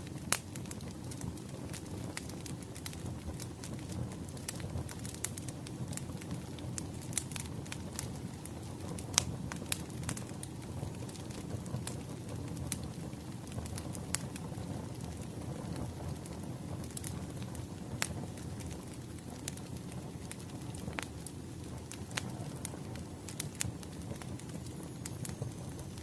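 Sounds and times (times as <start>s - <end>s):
fire crackling and popping: 0.0s - 26.0s
fire low rumble: 0.0s - 26.0s.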